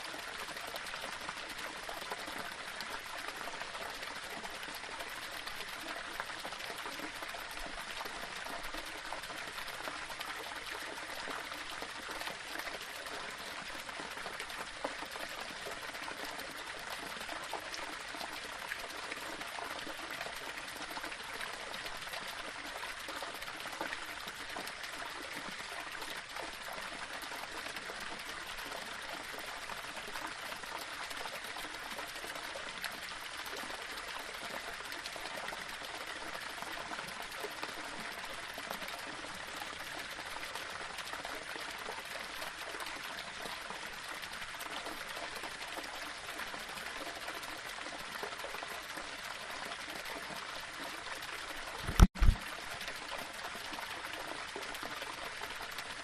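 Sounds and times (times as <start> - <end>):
waterfall splashing over stones: 6.1 - 56.0.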